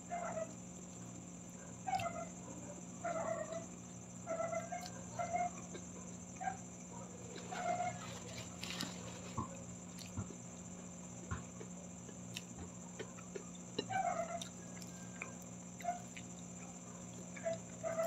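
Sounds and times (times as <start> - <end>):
steady low hum: 0.0 - 18.0
soft chewing: 0.5 - 18.0.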